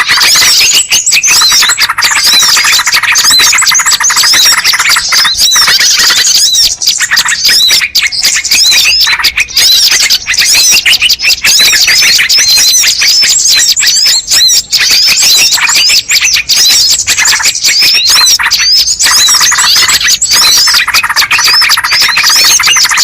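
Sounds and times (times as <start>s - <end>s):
small birds chirping and trilling: 0.0s - 23.0s.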